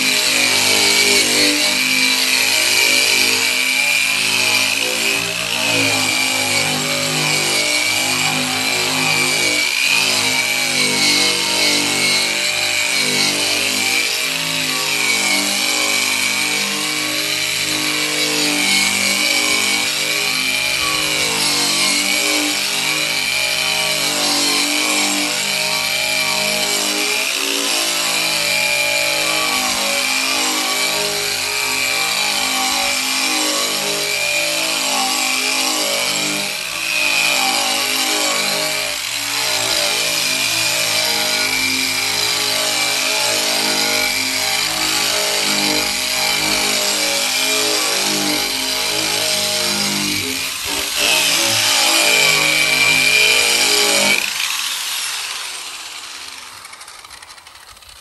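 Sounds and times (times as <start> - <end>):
drum sander whining on sheet steel: 0.0 - 58.0.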